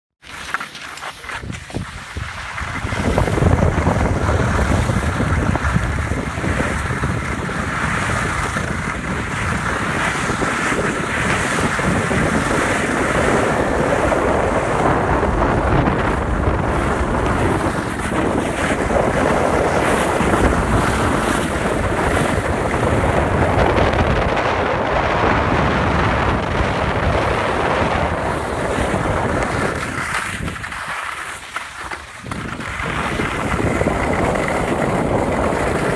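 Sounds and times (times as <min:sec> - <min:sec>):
skis hissing over snow: 0:00.2 - 0:23.9, 0:27.0 - 0:35.9
wind rushing over microphone: 0:01.4 - 0:30.9, 0:31.8 - 0:35.9.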